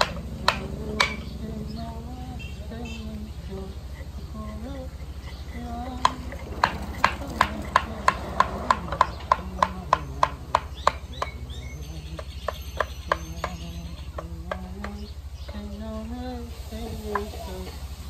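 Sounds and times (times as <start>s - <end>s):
regular sharp knocks: 0.0s - 1.8s, 3.0s - 15.8s.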